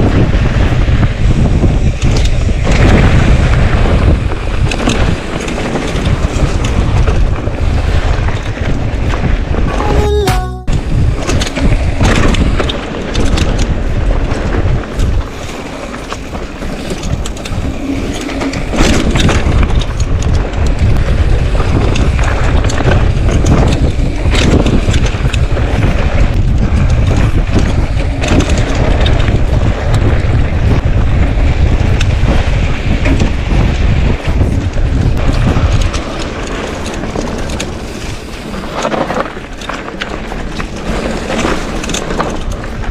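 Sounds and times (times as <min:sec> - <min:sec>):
bike rattling and knocking: 0:00.0 - 0:09.7, 0:11.2 - 0:42.9
wind buffeting microphone: 0:00.0 - 0:09.9, 0:10.7 - 0:42.9.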